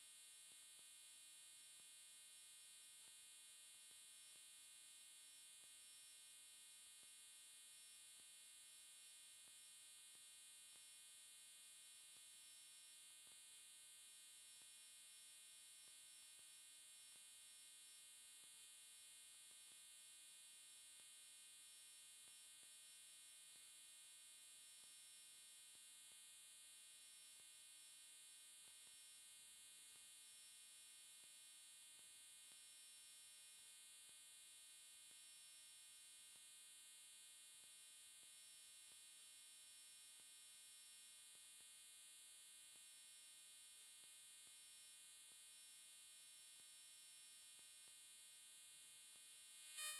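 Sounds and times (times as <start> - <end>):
faint electronic hum with whine: 0.0 - 49.9.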